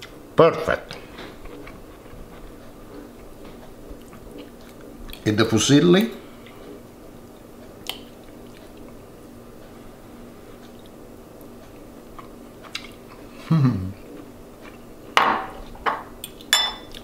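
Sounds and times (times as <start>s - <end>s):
man chewing pasta: 1.0s - 5.3s, 6.3s - 17.0s.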